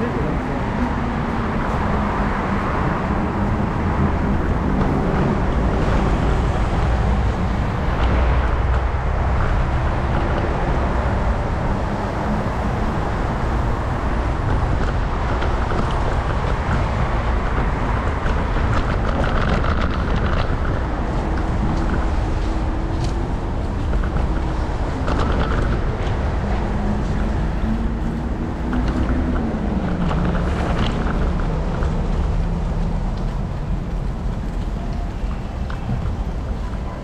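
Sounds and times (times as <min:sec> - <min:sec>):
wind rumble: 0:00.0 - 0:37.0
scooter wheels on pavement: 0:02.8 - 0:37.0.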